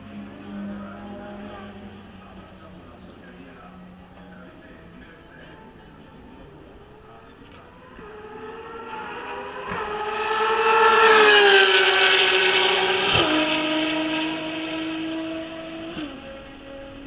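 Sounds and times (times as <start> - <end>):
race car passing at speed: 0.0 - 4.6, 6.9 - 17.0.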